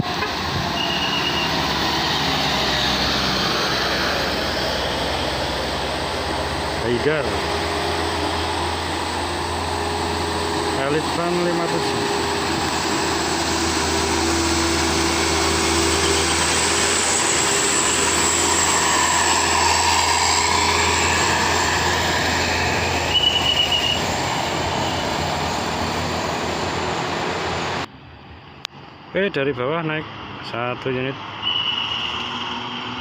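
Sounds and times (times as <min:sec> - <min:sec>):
bus diesel engine climbing: 0:00.0 - 0:31.4.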